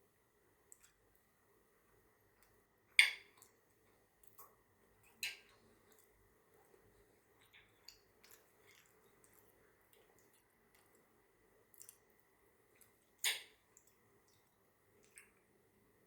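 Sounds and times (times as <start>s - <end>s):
person chewing softly: 0.0s - 16.0s.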